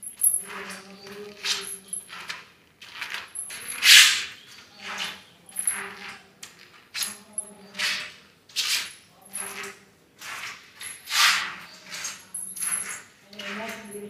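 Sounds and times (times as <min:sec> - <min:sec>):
slippers footsteps on tile floor: 0:00.0 - 0:14.0.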